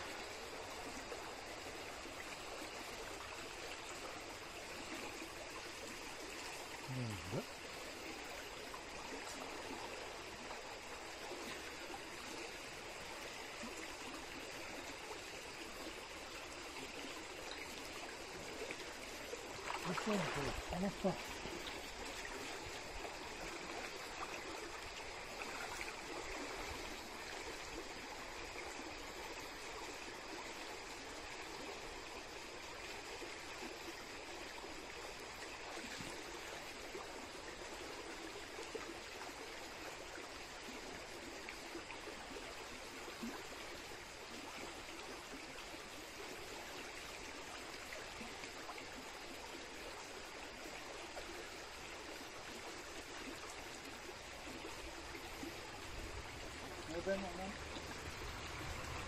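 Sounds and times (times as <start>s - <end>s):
brook babbling: 0.0s - 59.0s.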